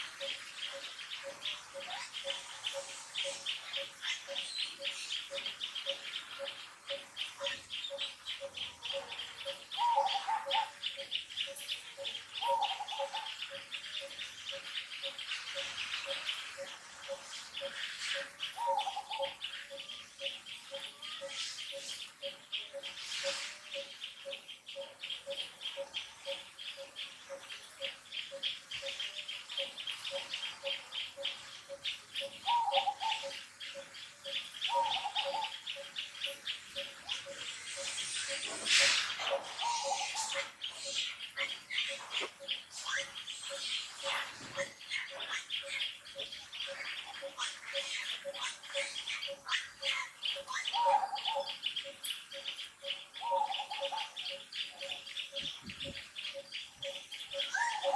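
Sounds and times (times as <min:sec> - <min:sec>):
insects chirping: 0:00.0 - 0:57.9.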